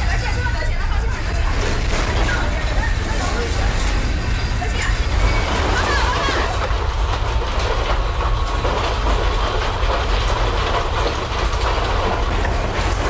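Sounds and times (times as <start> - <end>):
low rumble: 0.0 - 13.0
objects rattling and clattering: 0.1 - 13.0.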